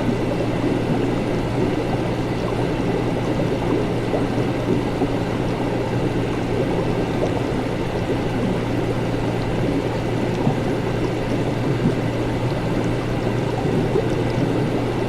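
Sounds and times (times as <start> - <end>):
liquid bubbling and gurgling: 0.0 - 15.0.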